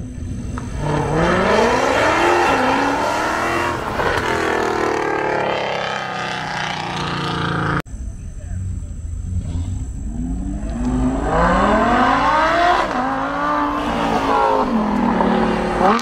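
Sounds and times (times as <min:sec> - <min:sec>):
car engine accelerating hard: 0:00.0 - 0:07.8, 0:09.2 - 0:16.0.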